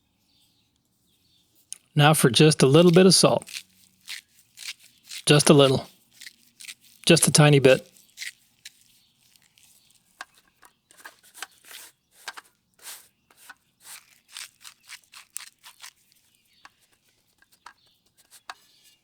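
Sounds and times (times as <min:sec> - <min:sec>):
hands rustling and scraping: 0:01.6 - 0:19.0.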